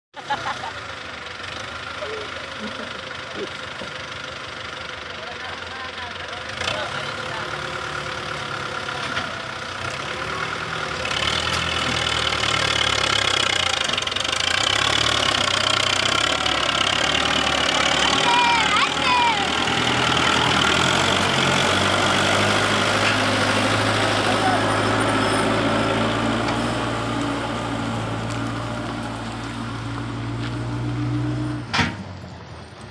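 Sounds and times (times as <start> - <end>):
tractor diesel engine under load: 0.1 - 32.9.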